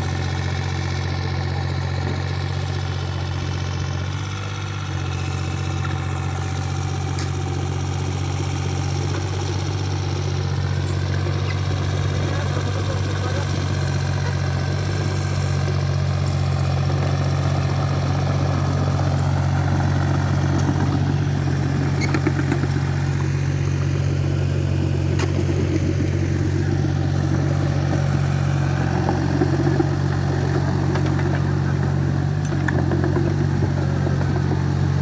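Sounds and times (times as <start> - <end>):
backhoe engine running: 0.0 - 35.0.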